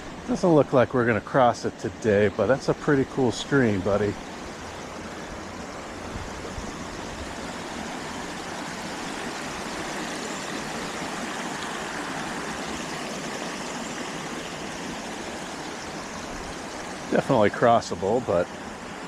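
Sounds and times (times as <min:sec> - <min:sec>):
stream babbling over rocks: 0:00.0 - 0:19.0.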